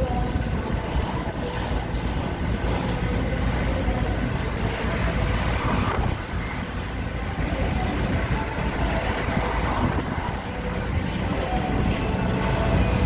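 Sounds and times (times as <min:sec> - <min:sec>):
tyres and engine rumble: 0:00.0 - 0:13.0
wind noise: 0:00.0 - 0:13.0.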